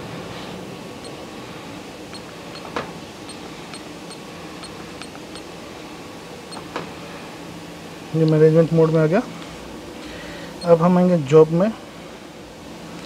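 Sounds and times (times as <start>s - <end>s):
steady hum of fans: 0.0s - 13.0s.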